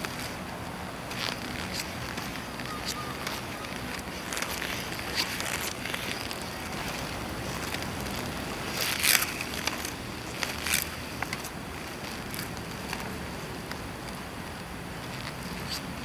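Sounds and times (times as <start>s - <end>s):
skate scrape: 0.0s - 14.3s, 15.0s - 16.0s
skate wheels rolling on concrete: 0.0s - 16.0s
small skate clicks: 0.0s - 16.0s.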